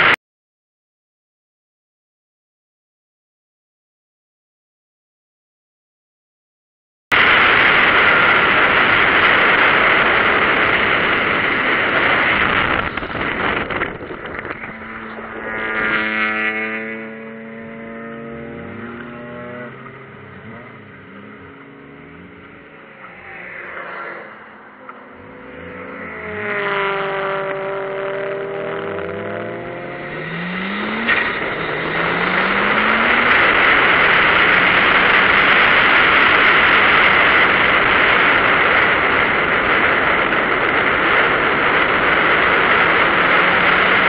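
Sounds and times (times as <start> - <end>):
car engine at low revs: 7.1 - 44.0
tyre and ground noise rushing: 7.1 - 44.0.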